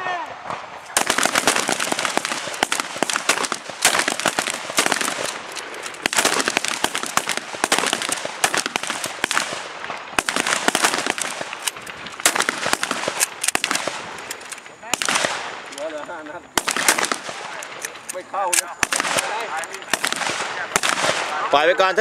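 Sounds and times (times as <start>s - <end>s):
shotgun shots: 0.4s - 16.0s, 16.6s - 21.6s.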